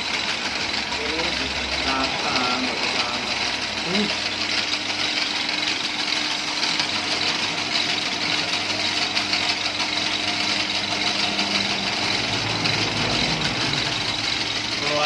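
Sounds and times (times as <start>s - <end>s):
machine mechanical rattle: 0.0s - 15.0s
motor hum: 0.0s - 15.0s.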